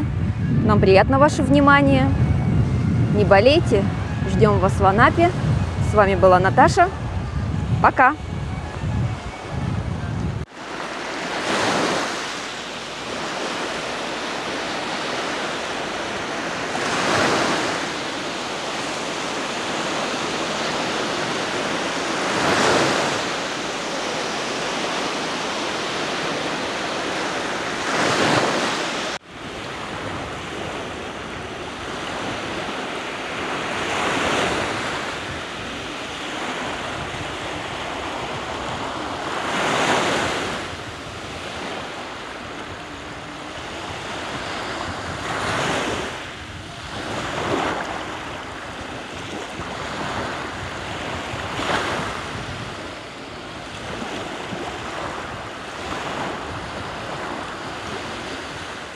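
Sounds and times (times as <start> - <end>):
waves washing up a beach: 0.0 - 9.4, 10.4 - 58.9.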